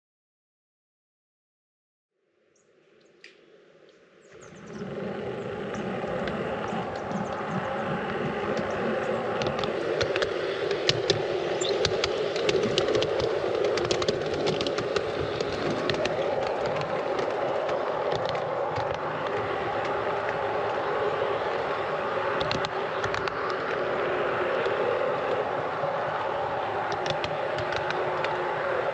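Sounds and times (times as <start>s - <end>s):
model train rolling hum: 4.4s - 28.9s
wheels clicking over rail joints: 4.8s - 28.9s.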